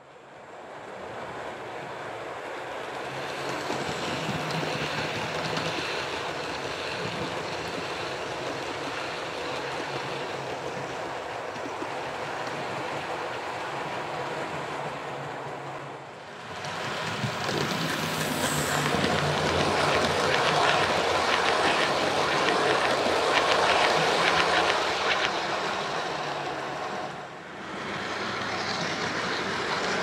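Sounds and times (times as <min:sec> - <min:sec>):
model train wheels rumbling on rails: 0:02.3 - 0:30.0.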